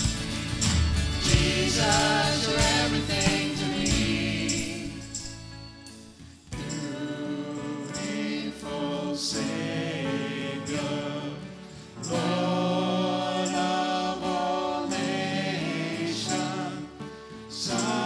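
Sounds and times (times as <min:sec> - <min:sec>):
choir singing a hymn: 0:01.2 - 0:05.4, 0:06.7 - 0:18.0.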